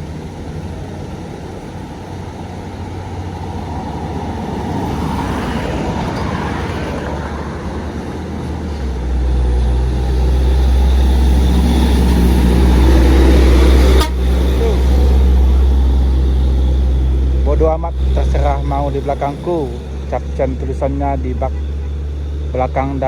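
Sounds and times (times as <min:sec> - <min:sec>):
diesel truck engine rumbling: 0:00.0 - 0:23.0
vehicle passing: 0:00.0 - 0:23.0.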